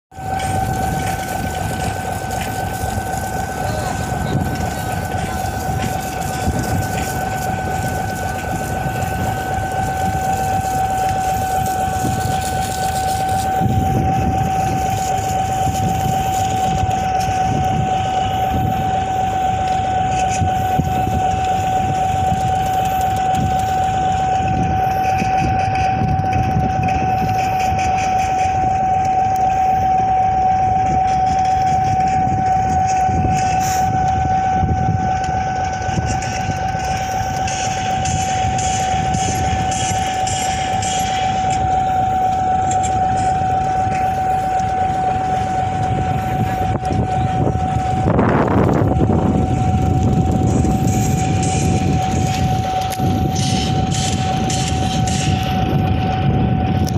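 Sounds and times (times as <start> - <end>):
boat engine running: 0.0 - 56.9.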